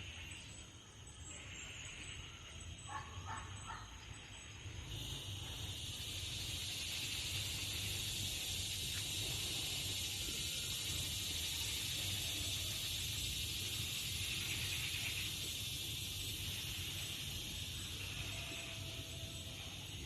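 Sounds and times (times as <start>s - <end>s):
high insect chorus: 0.0s - 20.0s.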